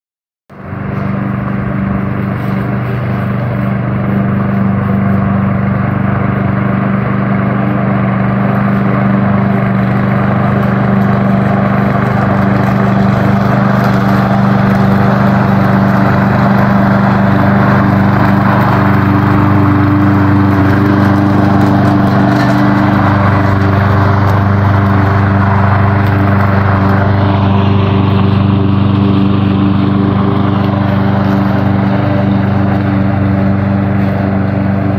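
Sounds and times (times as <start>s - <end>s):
lawn mower running: 0.5s - 34.9s.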